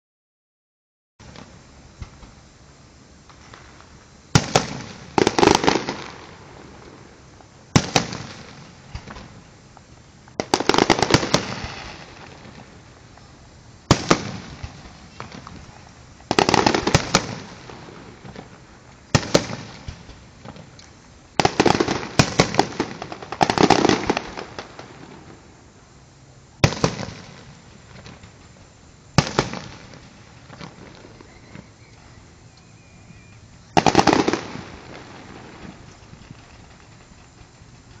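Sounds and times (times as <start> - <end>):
fireworks bursting with bangs: 1.2 - 32.0, 33.3 - 38.0
crackling firework tails: 1.2 - 38.0.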